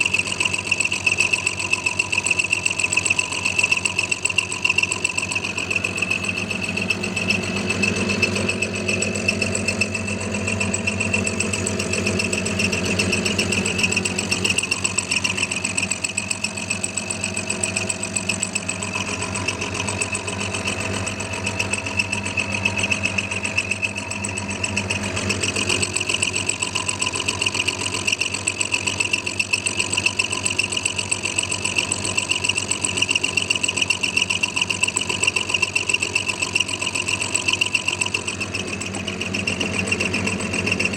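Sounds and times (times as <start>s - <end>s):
cutter pulsing through steel: 0.0s - 40.9s
milling machine whine: 0.0s - 40.9s.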